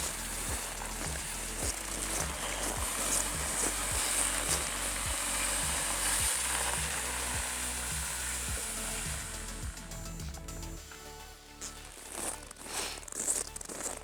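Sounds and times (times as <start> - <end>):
dense hiss: 0.0 - 11.9
music with steady beat: 0.0 - 14.0.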